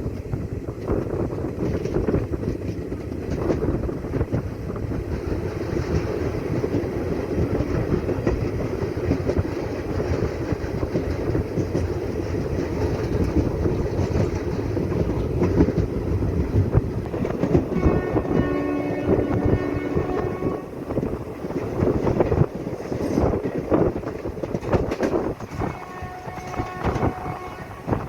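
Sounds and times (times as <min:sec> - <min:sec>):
train rumbling along track: 0:00.0 - 0:28.0.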